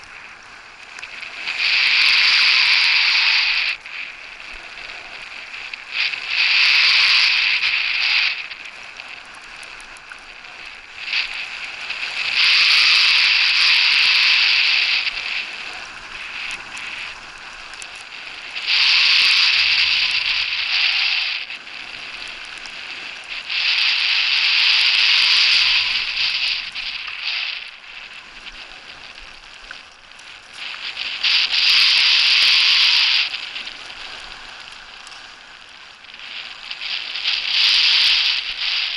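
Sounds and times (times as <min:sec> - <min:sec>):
skis gliding on snow: 0:00.0 - 0:38.9
skis scraping on hard snow: 0:00.0 - 0:38.9.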